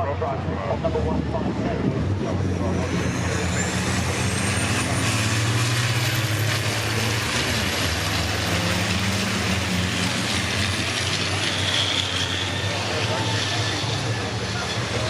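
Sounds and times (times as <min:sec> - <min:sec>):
truck diesel engines running: 0:00.0 - 0:15.0.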